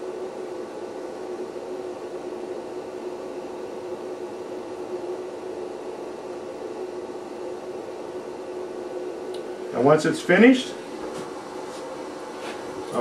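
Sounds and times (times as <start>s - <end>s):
seaming tool humming: 0.0s - 13.0s.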